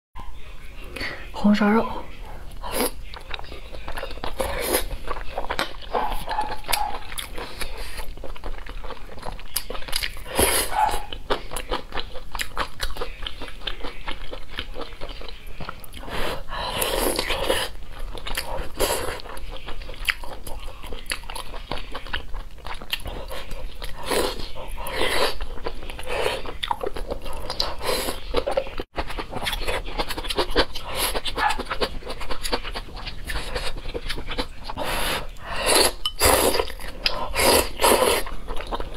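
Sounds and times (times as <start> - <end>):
person chewing wet mouth smacking: 3.0 - 10.2, 10.8 - 16.1, 17.1 - 38.9.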